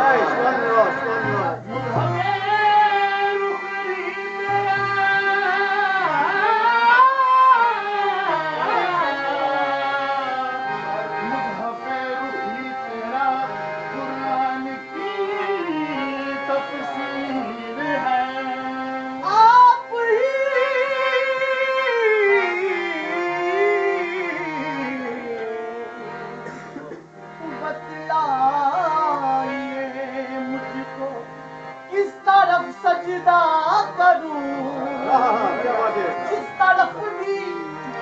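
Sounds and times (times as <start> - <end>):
harmonium chords and drone: 0.0 - 38.0
man singing devotional melody: 0.0 - 38.0.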